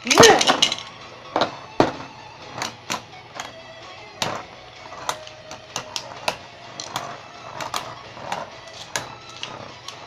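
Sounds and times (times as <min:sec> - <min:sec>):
spinning tops whirring: 0:00.0 - 0:10.0.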